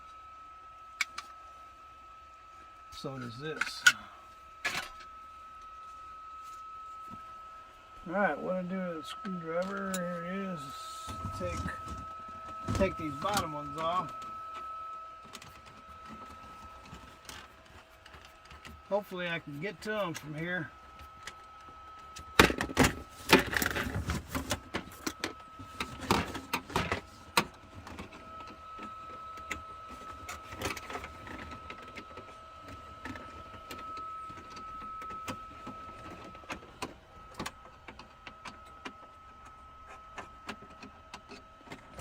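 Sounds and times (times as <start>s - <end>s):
faint high whine: 0.0s - 42.0s.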